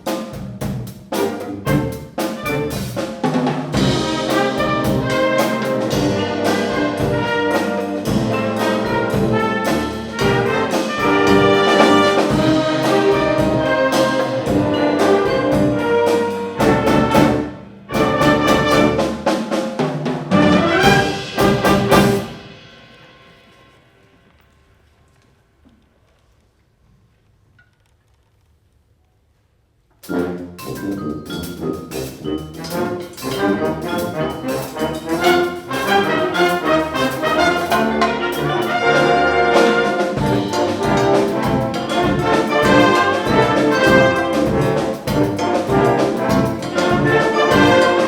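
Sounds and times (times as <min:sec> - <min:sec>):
wind band playing: 0:00.0 - 0:22.6, 0:30.0 - 0:48.0.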